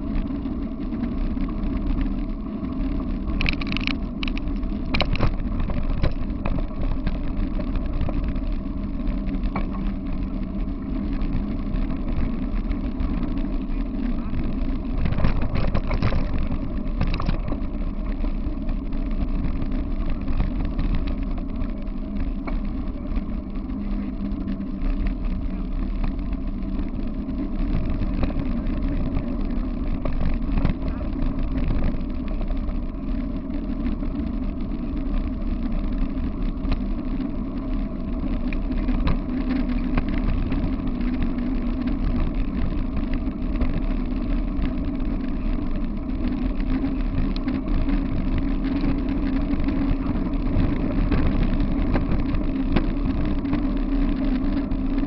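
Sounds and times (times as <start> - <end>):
wheels rolling over gravel: 0.0 - 55.0.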